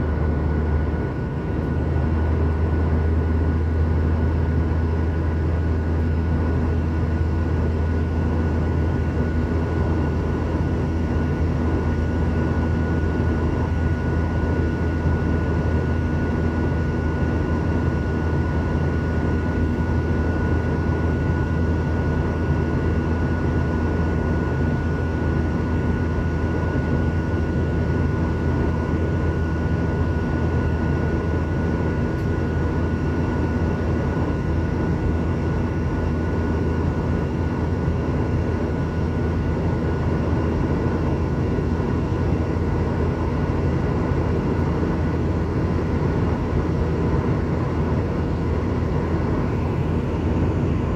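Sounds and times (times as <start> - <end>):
jet engine and airflow rumble: 0.0 - 50.9.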